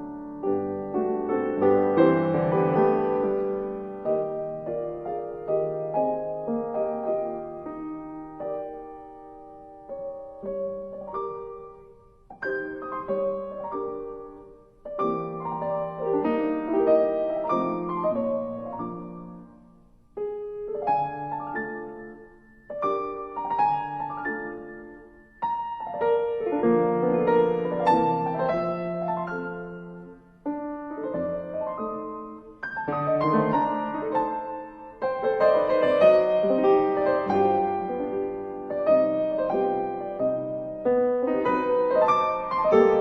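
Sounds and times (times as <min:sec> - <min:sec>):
slow piano chords: 0:00.0 - 0:43.0.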